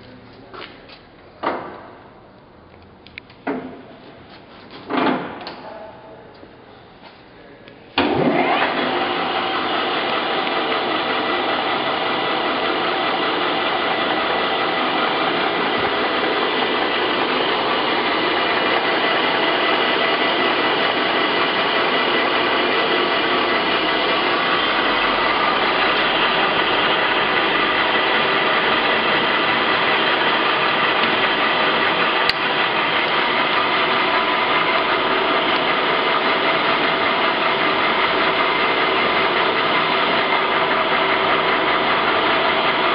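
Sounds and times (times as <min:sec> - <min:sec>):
lathe running with gear whine: 0:08.0 - 0:42.9.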